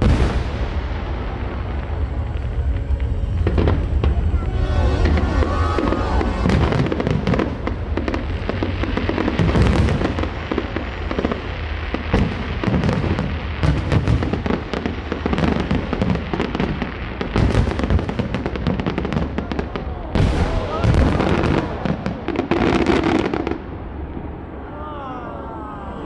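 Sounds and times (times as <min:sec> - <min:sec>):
deep rumbling boom: 0:00.0 - 0:16.3, 0:17.2 - 0:23.0
fireworks crackling and banging: 0:00.0 - 0:24.7.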